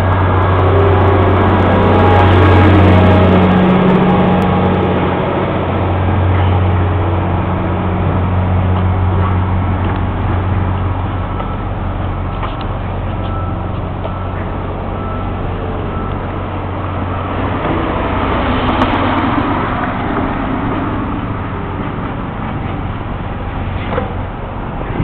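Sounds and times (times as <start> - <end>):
low engine hum: 0.0 - 25.0
vehicle rushing past: 0.0 - 25.0.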